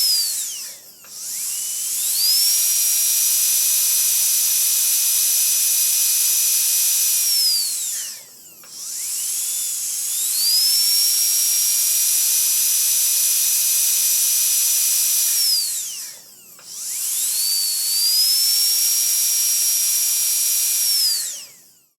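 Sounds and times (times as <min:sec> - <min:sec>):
dental drill whining: 0:00.0 - 0:22.0.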